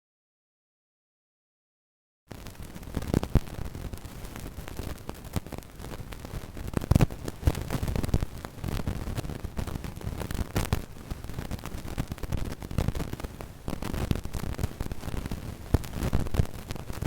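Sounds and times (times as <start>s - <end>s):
radio static hiss and crackles: 2.3s - 17.0s.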